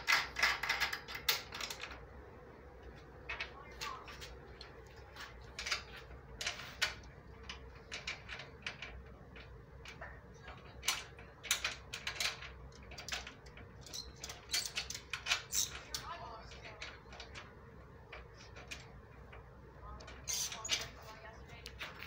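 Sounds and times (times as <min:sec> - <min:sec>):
tools clicking and knocking: 0:00.0 - 0:02.0, 0:02.8 - 0:22.0
faint steady hum: 0:00.0 - 0:22.0.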